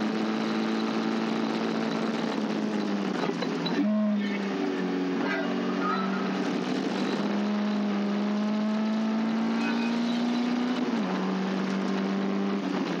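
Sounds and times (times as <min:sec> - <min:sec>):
race car engine under full load: 0:00.0 - 0:13.0.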